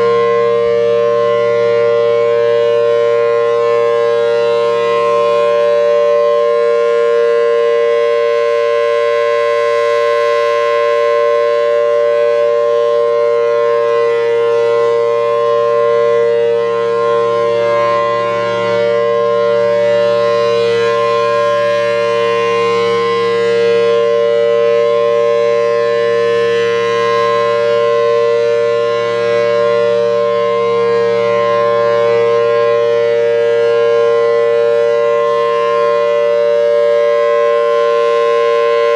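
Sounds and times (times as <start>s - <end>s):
siren dual tone: 0.0s - 38.9s.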